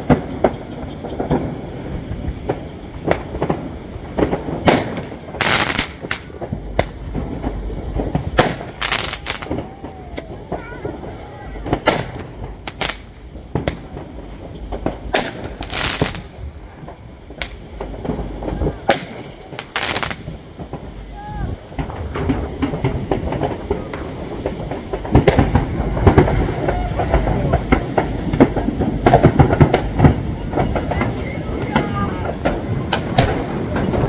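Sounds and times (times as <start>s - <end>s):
fireworks bangs: 0.0s - 34.0s
fireworks crackling bursts: 0.0s - 34.0s
low rumble: 0.0s - 34.0s.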